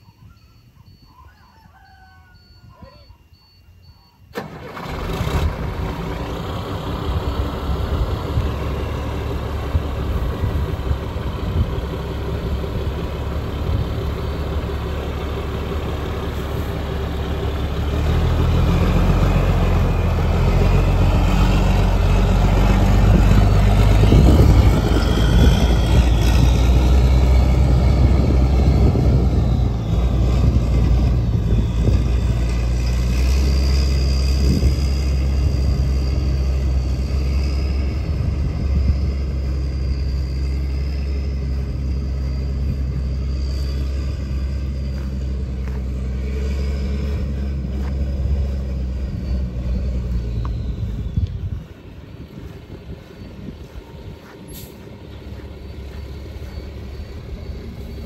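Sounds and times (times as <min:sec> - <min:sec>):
diesel truck engine: 0:04.3 - 0:58.0.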